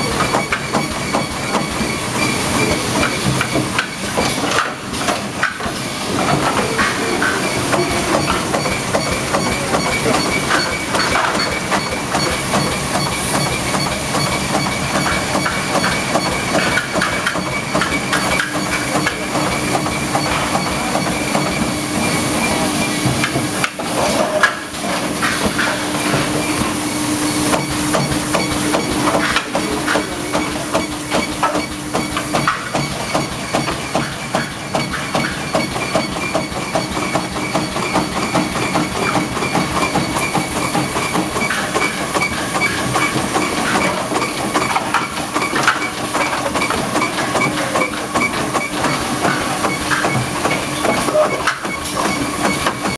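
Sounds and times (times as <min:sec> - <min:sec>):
high machine whine: 0:00.0 - 0:52.9.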